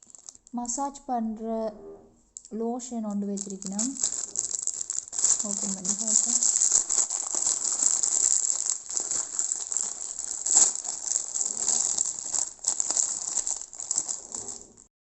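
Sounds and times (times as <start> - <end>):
plastic packaging crinkling: 0.0 - 0.6, 3.3 - 14.9.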